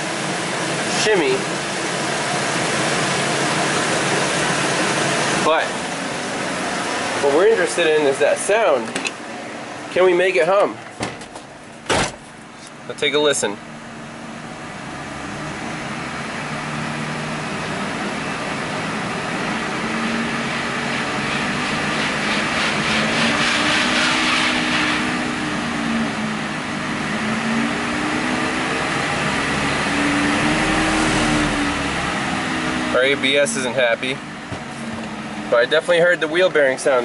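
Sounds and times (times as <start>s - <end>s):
wavering wheel bearing hum: 0.0s - 36.7s
truck engine droning: 0.0s - 37.0s.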